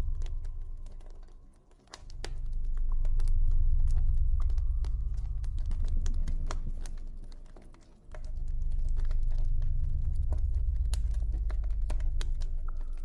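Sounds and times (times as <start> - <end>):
deep low rumble: 0.0 - 1.4, 2.0 - 7.4, 8.1 - 13.0.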